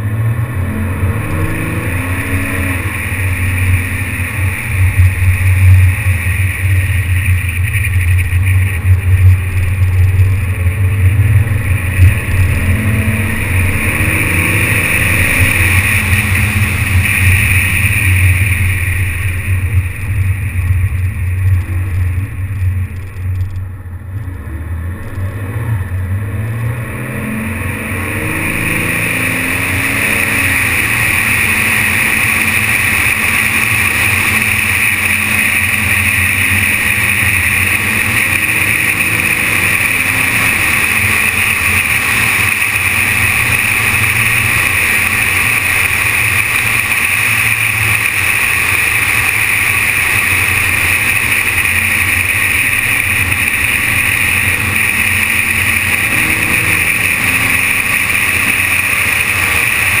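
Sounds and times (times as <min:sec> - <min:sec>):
low engine drone: 0:00.0 - 1:00.0
wind and tyre noise: 0:00.0 - 1:00.0.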